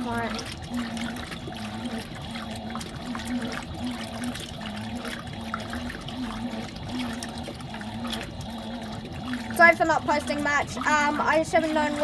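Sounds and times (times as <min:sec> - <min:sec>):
washing machine motor hum: 0:00.0 - 0:12.0
water sloshing in washing machine: 0:00.0 - 0:12.0.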